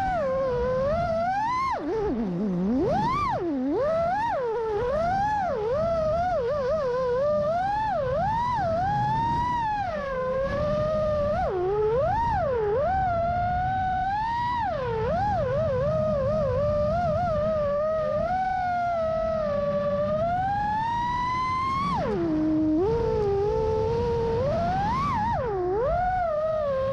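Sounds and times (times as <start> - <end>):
drone motors whining: 0.0 - 26.9.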